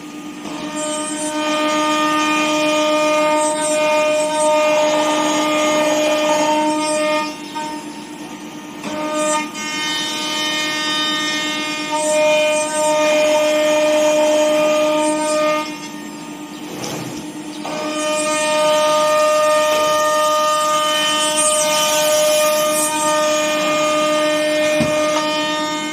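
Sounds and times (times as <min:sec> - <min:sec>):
router spindle whining through wood: 0:00.0 - 0:25.9.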